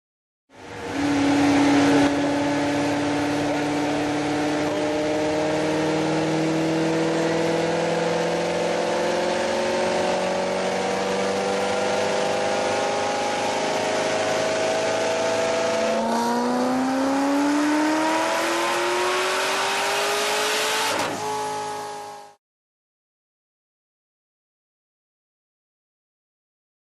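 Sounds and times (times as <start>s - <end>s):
car engine under full load: 0.5s - 22.4s.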